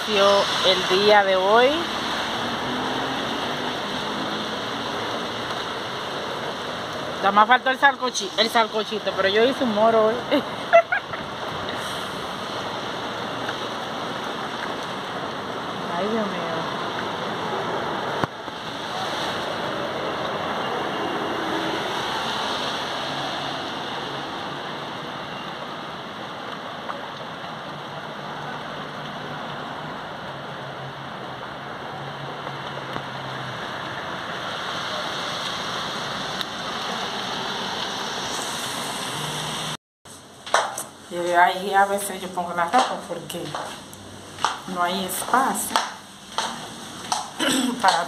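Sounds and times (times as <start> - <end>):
heavy rain on wet street: 0.0 - 48.0.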